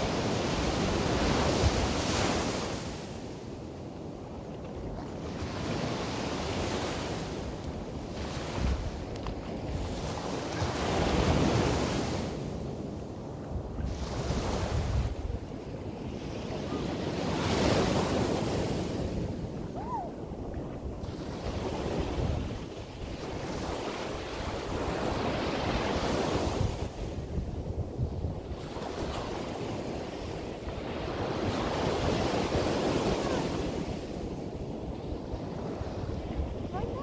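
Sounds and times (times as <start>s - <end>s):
sea waves breaking on beach: 0.0s - 37.0s
wind gusting on microphone: 0.0s - 37.0s.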